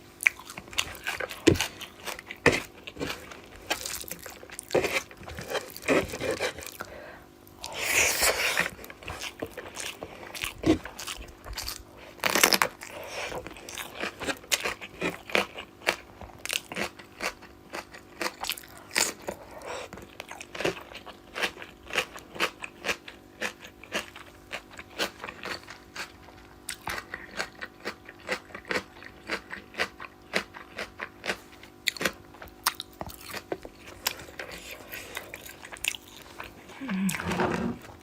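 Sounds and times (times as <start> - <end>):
faint steady hum: 0.0 - 38.0
crunching and chewing: 0.1 - 38.0.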